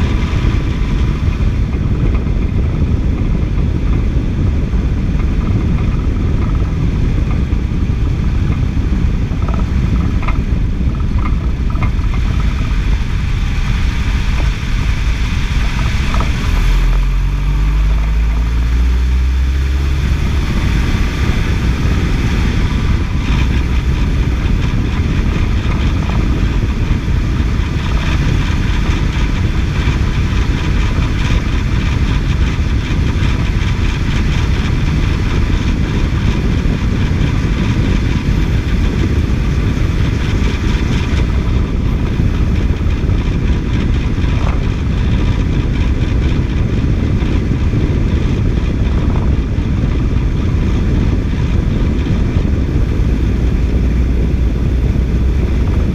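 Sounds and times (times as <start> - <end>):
car engine idling: 0.0 - 55.9
unidentified engine noise: 0.0 - 55.9.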